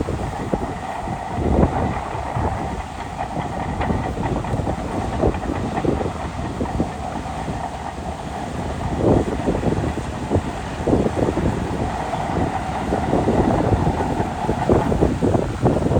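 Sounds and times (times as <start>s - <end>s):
bulldozer engine running: 0.0s - 15.9s
clanking and rattling tracks: 0.0s - 15.9s.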